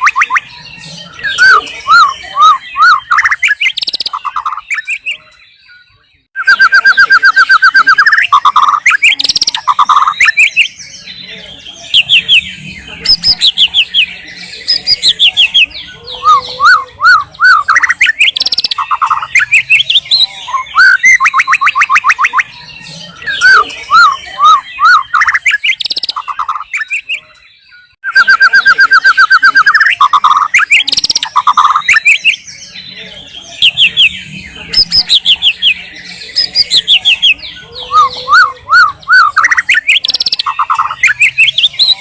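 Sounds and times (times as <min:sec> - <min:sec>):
bird singing whistled phrases: 0:00.0 - 0:42.0.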